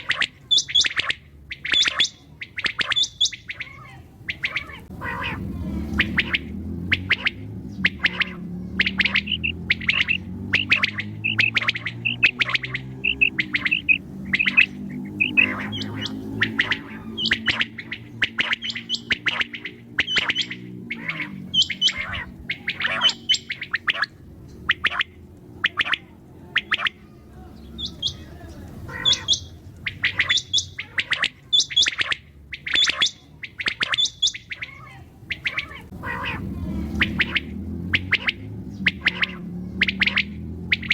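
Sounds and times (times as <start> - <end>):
quail chirping: 0.0 - 40.9.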